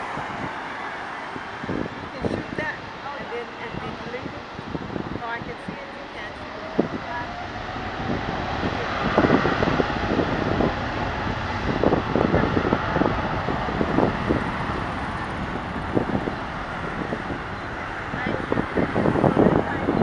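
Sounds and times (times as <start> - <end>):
distant jet engines at takeoff: 0.0 - 20.0
wind buffeting microphone: 0.0 - 20.0.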